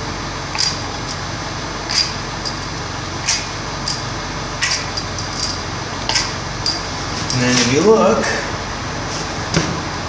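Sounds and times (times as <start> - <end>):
fan-like hum: 0.0 - 10.0.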